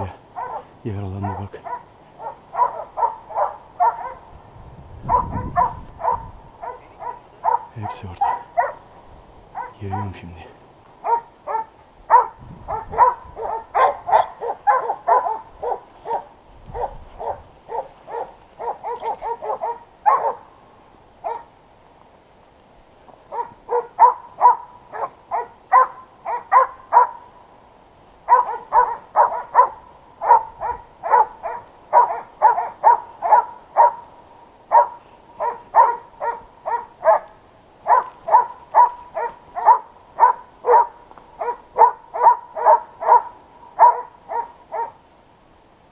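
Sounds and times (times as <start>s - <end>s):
hounds barking: 0.0s - 4.4s, 5.0s - 10.4s, 11.0s - 20.5s, 21.2s - 21.5s, 23.3s - 27.3s, 28.2s - 45.0s.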